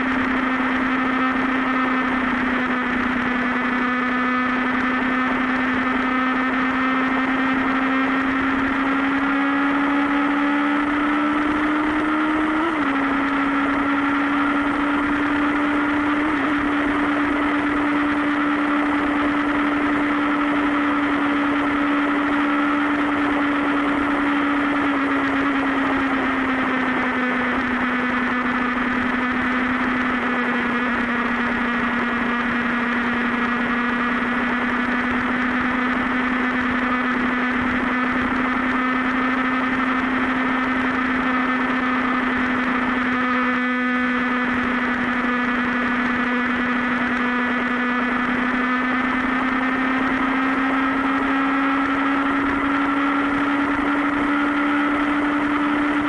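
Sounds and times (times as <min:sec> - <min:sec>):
motorcycle engine cruising drone: 0:00.0 - 0:56.0.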